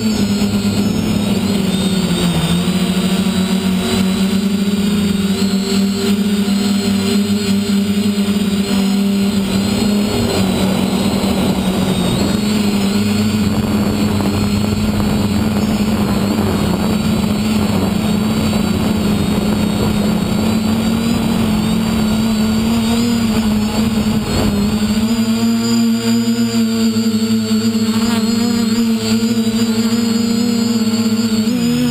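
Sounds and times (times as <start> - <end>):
quadcopter motors buzzing: 0.0 - 31.9.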